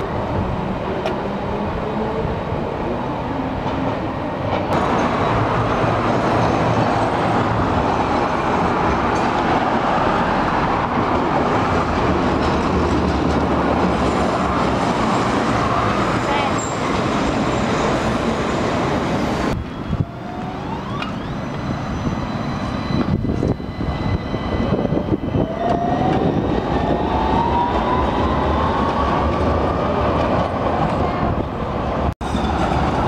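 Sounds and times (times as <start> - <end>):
tram wheels rumbling on rails: 0.0 - 33.0.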